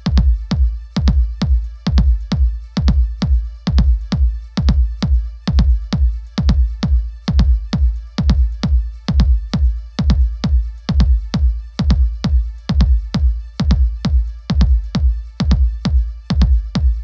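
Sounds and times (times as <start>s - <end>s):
electronic dance music: 0.0s - 17.0s.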